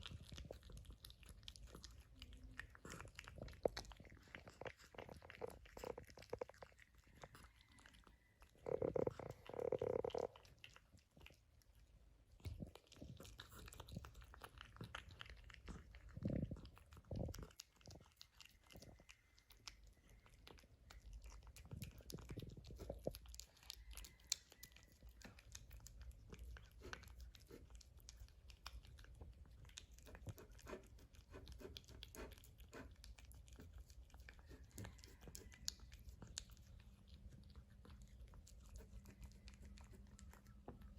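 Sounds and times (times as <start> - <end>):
cat chewing and licking food: 0.0 - 40.9.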